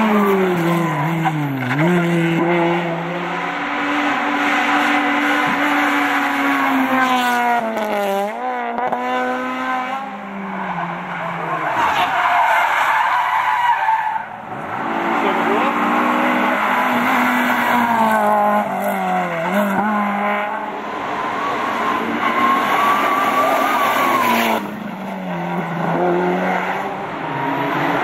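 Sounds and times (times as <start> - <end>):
car engines revving hard: 0.0 - 12.1, 14.3 - 28.0.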